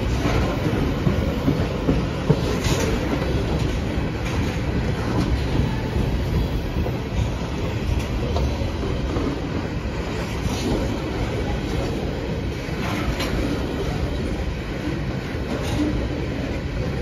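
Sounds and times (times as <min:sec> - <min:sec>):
train wheels clicking: 0:00.0 - 0:17.0
train wheels rumbling on rails: 0:00.0 - 0:17.0.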